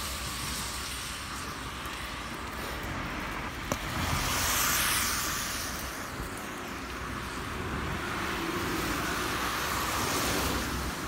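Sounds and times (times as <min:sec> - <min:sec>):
car tyres hissing on wet road: 0:00.0 - 0:11.0
traffic hiss: 0:00.0 - 0:11.0.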